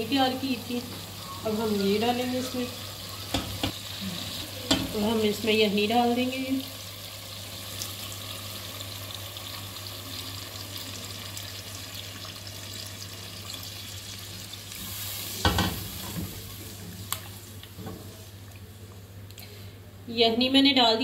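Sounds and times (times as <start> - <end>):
broth pouring and sizzling: 0.0 - 18.5.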